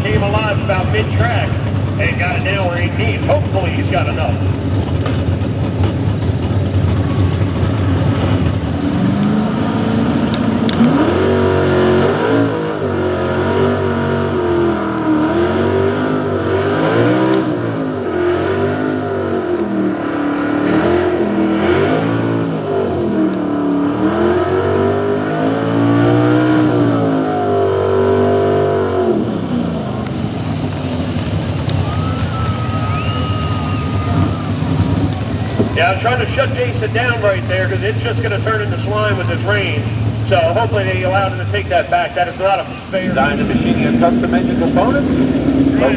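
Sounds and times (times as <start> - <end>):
truck engine revving at full throttle: 0.0 - 45.9.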